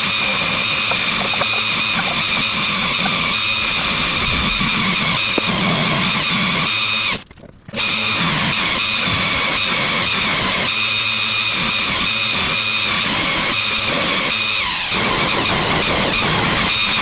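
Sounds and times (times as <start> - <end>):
power tool whining: 0.0 - 17.0.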